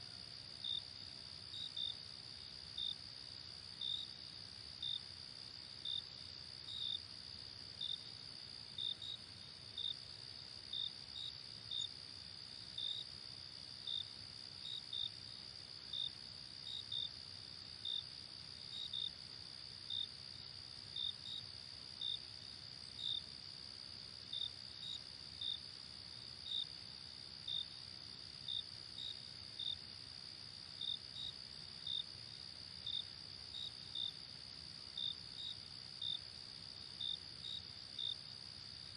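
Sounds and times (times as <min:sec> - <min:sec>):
nearby cricket chirping: 0:00.0 - 0:07.1, 0:07.8 - 0:38.9.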